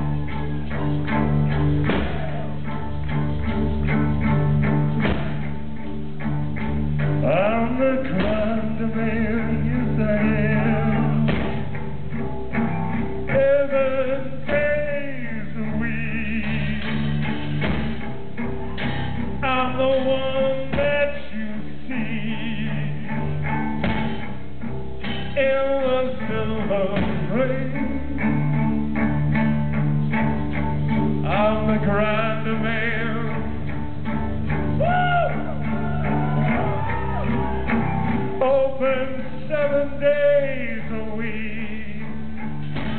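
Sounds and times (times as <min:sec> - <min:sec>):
drums: 0:00.0 - 0:40.0, 0:40.6 - 0:42.9
electric guitar: 0:00.0 - 0:42.9.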